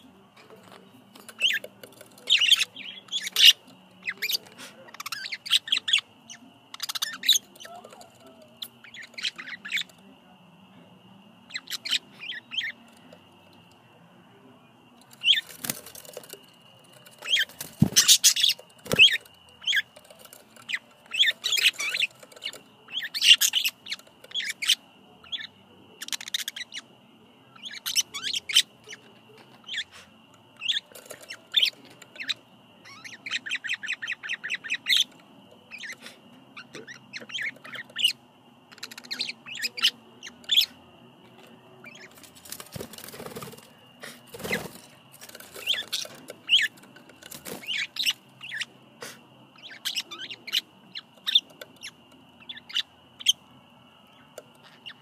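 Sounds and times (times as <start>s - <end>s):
budgerigars chirping and chattering: 0.0s - 10.2s, 10.8s - 14.0s, 14.8s - 55.0s.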